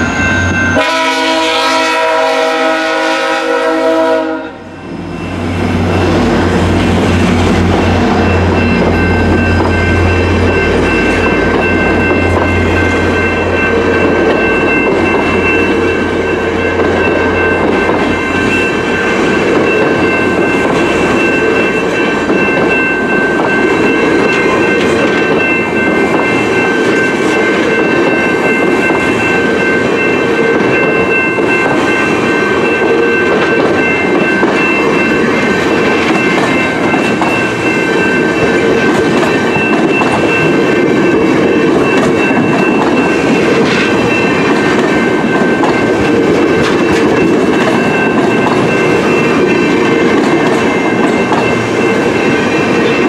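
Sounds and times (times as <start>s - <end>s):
high-pitched ring: 0.0s - 2.0s, 4.3s - 53.0s
train wheels rumbling on rails: 0.0s - 53.0s.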